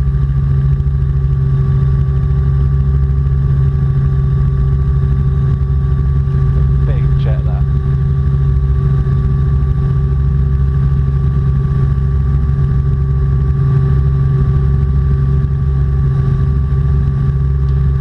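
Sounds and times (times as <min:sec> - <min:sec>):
helicopter engine and rotors: 0:00.0 - 0:18.0.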